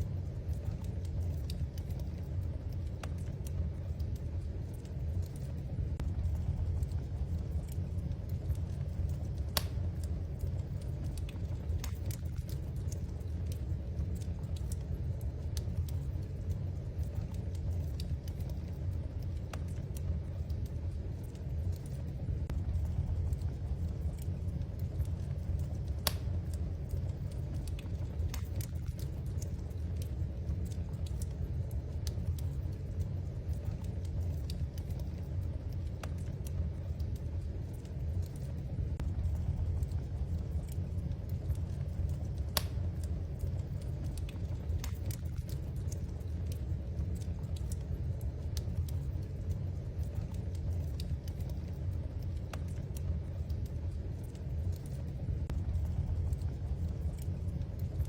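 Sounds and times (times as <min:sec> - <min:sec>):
fire low rumble: 0:00.0 - 0:58.0
wood fire crackling: 0:00.0 - 0:58.0.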